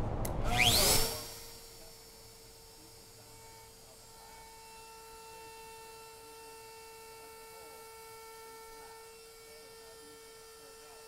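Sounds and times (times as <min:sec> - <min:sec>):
router high whine: 0:00.2 - 0:11.0.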